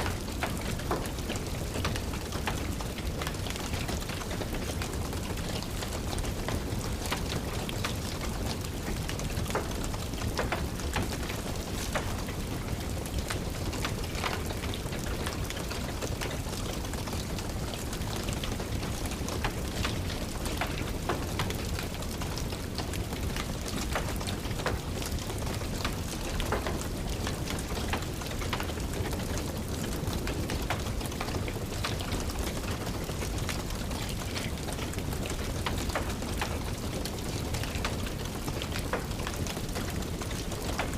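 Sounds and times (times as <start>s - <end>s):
rain falling and tapping: 0.0s - 40.9s
wood fire crackling: 0.0s - 40.9s.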